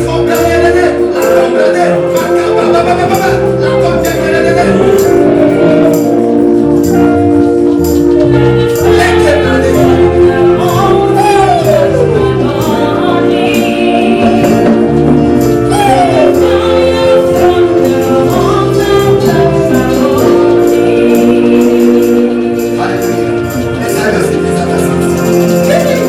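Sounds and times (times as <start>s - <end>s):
choir singing gospel: 0.0s - 26.0s
tambourine shaking: 0.0s - 26.0s.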